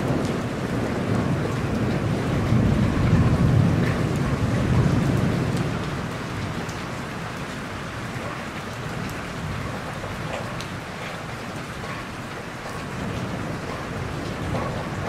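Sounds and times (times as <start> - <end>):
low rumble of thunder: 0.0 - 15.0
steady rain falling: 0.0 - 15.0.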